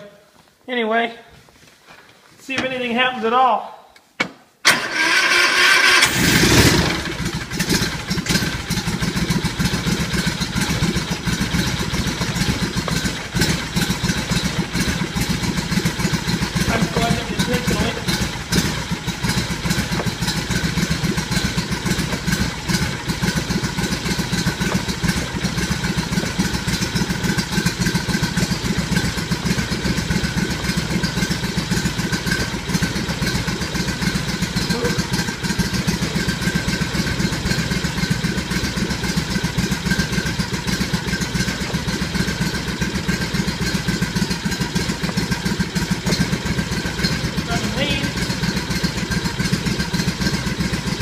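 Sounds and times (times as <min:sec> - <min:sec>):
small engine running: 0:04.7 - 0:51.0.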